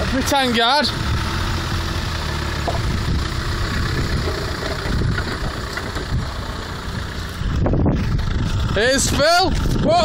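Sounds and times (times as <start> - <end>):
car engine running at low revs: 0.0 - 10.0.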